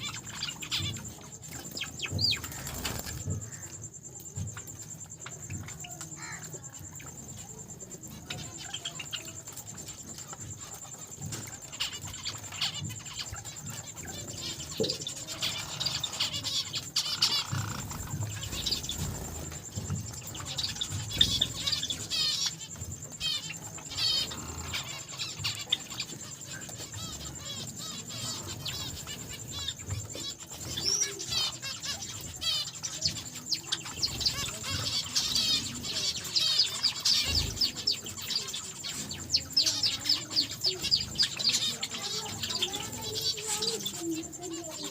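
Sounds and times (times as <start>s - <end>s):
finches chirping: 0.0s - 44.9s.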